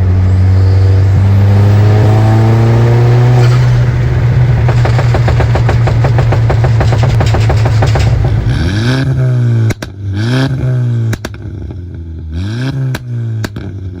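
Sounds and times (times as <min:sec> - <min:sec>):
car engine revving: 0:00.0 - 0:14.0
exhaust crackles and pops: 0:02.2 - 0:14.0.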